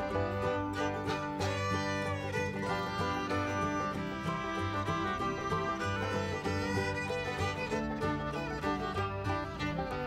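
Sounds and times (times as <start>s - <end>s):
lively string instrument music: 0.0s - 10.0s.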